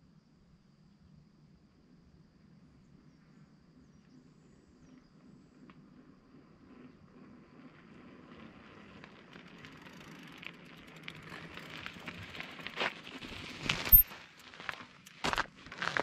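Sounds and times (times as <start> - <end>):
bicycle rolling on dirt road: 2.7 - 16.0.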